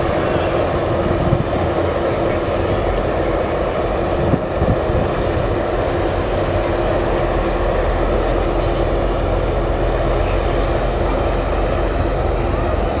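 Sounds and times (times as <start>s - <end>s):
boat engines droning: 0.0s - 13.0s
water and wind noise: 0.0s - 13.0s.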